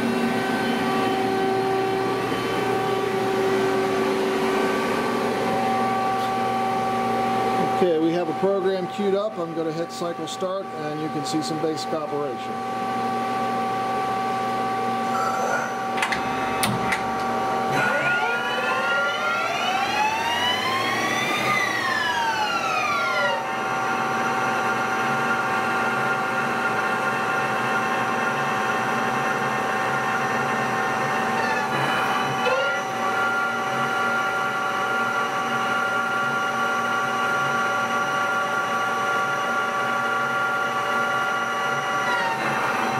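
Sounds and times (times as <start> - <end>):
lathe machine hum: 0.0 - 42.9
lathe whine: 0.0 - 42.9.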